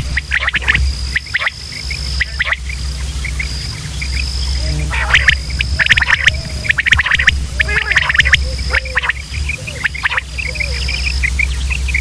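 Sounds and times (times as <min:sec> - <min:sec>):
insect trilling: 0:00.0 - 0:12.0
low hum: 0:00.0 - 0:12.0
quail calling: 0:00.0 - 0:12.0.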